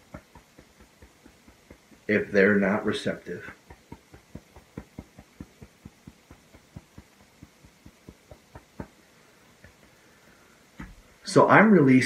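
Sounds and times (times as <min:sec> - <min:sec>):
fingertips tapping on jacket: 0:00.0 - 0:11.1.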